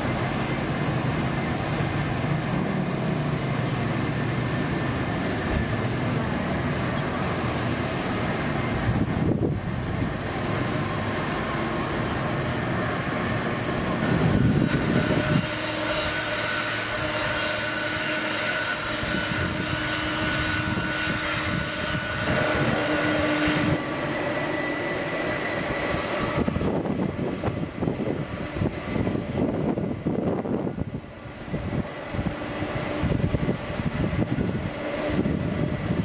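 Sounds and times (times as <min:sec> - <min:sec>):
high engine whine: 0:00.0 - 0:36.0
jet engines roaring: 0:00.0 - 0:36.0.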